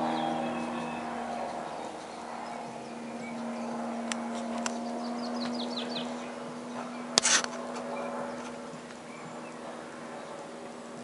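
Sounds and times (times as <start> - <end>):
bird chirping: 0.0 - 11.0
propeller plane engine drone: 0.0 - 11.0.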